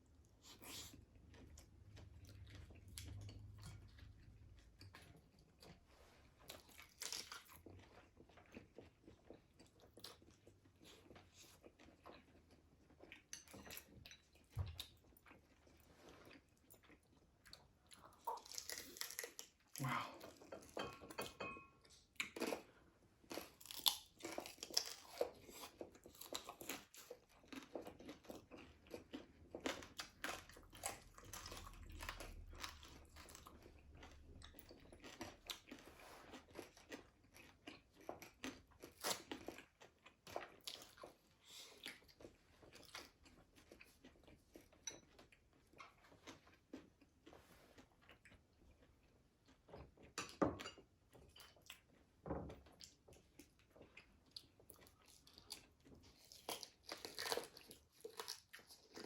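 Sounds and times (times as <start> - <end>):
chewing crispy fried food: 0.0 - 59.0.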